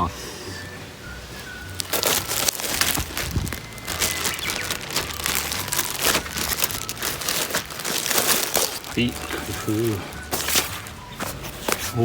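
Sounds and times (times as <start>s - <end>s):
packaging rustling and crinkling: 1.4s - 12.0s.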